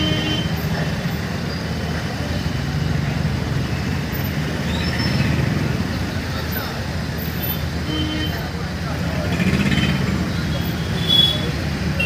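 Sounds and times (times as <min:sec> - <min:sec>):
auto-rickshaw engine: 0:00.0 - 0:12.0
diesel engines running: 0:00.0 - 0:12.0.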